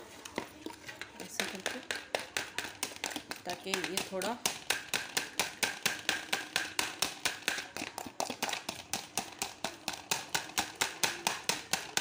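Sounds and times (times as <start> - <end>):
fork beating in plastic bowl: 0.4 - 12.0.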